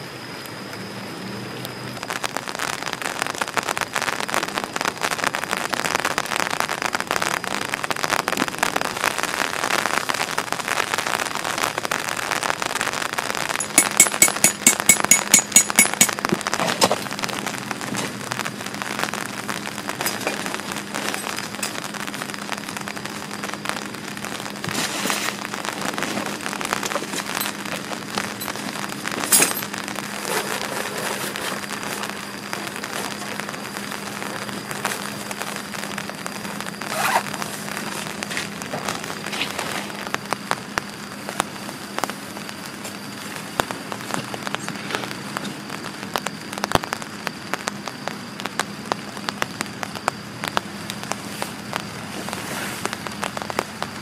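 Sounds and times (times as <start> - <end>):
rain falling: 0.0 - 54.0
sharp crack: 2.0 - 54.0.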